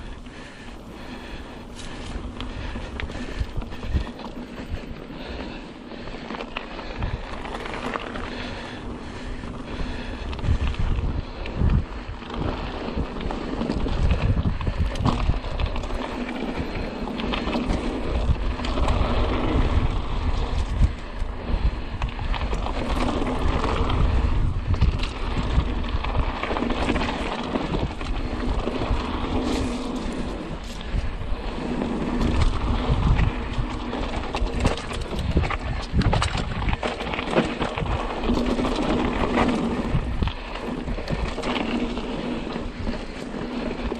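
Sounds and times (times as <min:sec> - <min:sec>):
tyre noise on dirt: 0:00.0 - 0:43.9
wind buffeting microphone: 0:00.0 - 0:43.9.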